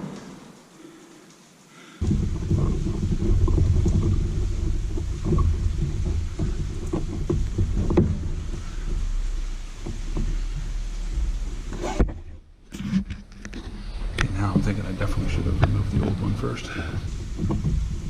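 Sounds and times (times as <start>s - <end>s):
low rumbling: 2.0s - 18.0s
rustling and scraping of cable: 2.0s - 18.0s.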